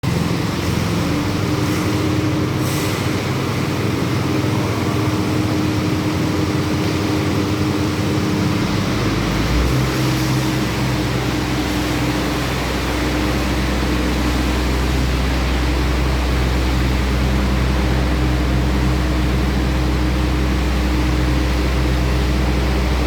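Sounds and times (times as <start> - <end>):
power trowel engine running: 0.0 - 23.0.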